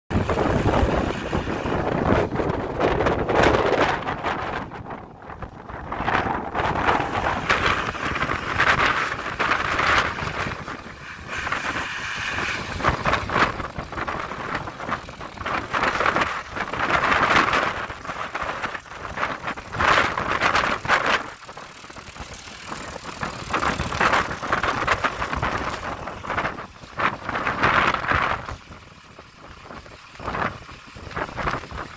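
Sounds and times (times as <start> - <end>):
tires on gravel: 0.1 - 31.9
tractor diesel engine: 0.1 - 31.9
wind on microphone: 0.1 - 31.9.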